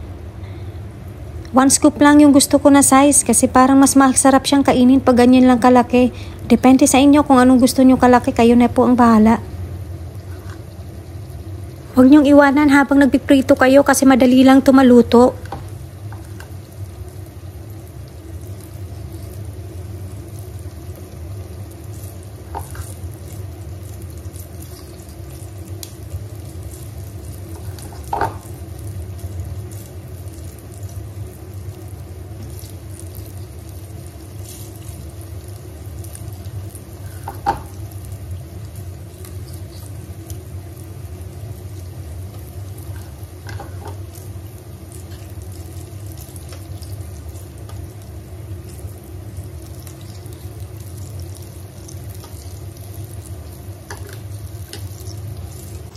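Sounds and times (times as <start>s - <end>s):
fritters sizzling in oil: 0.3s - 55.9s.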